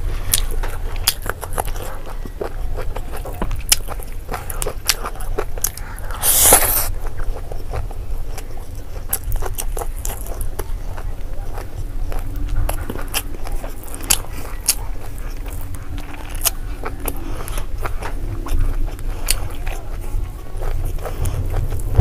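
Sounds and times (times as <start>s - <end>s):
person chewing and biting: 0.0s - 22.0s.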